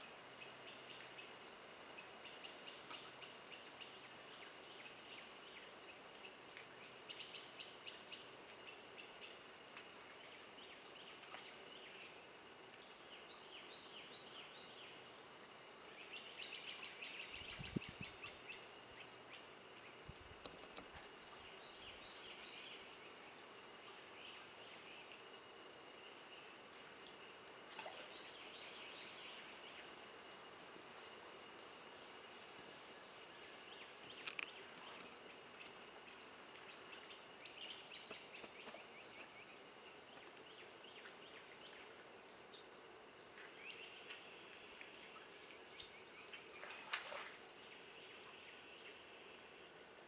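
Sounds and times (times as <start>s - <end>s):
wild birds chirping: 0.0s - 50.0s.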